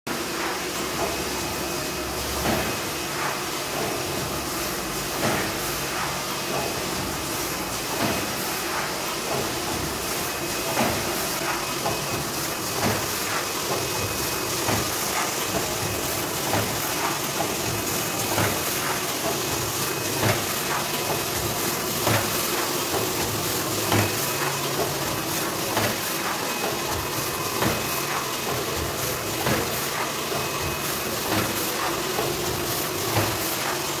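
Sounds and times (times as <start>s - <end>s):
machine hiss and hum: 0.1s - 34.0s.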